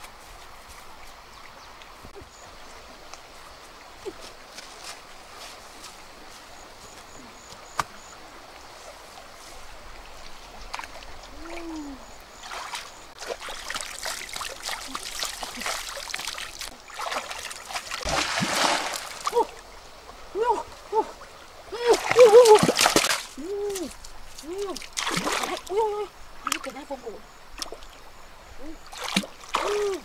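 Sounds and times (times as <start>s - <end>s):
water splashing and sloshing: 0.0s - 30.0s.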